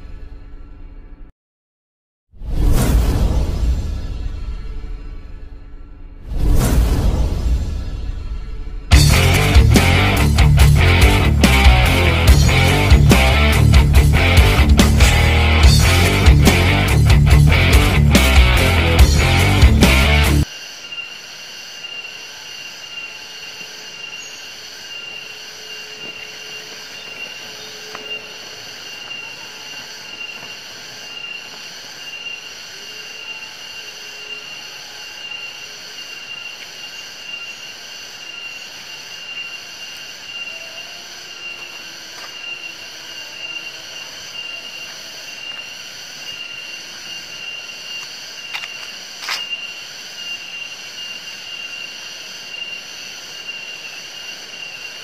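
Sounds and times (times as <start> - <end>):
insect chorus drone: 7.1 - 55.0.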